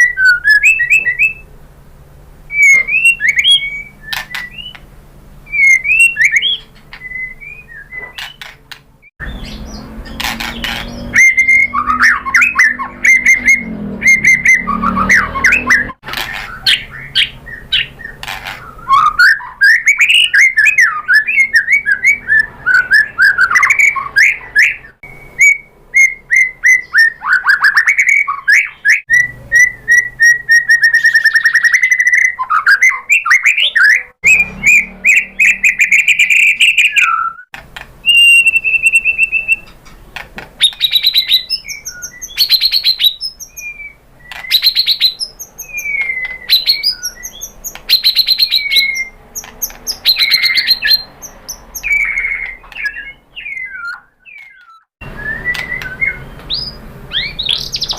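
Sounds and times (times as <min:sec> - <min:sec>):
bird singing varied whistles: 0:00.0 - 0:01.5, 0:02.5 - 0:04.8, 0:05.5 - 0:08.5, 0:10.8 - 0:39.8, 0:40.6 - 0:57.9.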